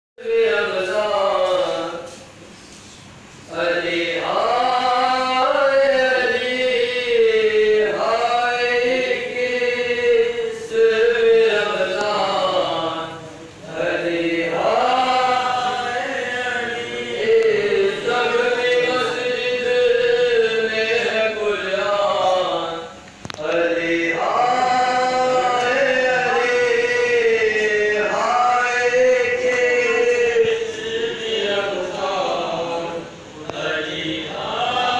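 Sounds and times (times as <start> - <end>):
men chanting a lament: 0.2 - 2.3, 3.5 - 34.9.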